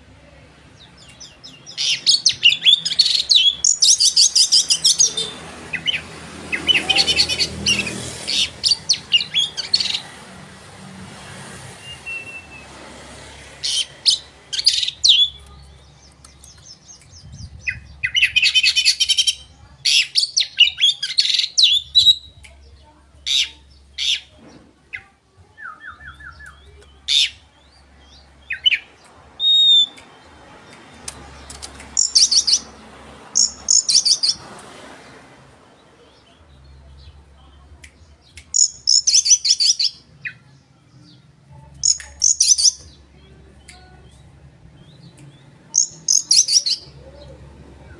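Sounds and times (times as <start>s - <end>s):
songbird singing: 0.2s - 10.2s, 13.5s - 47.9s.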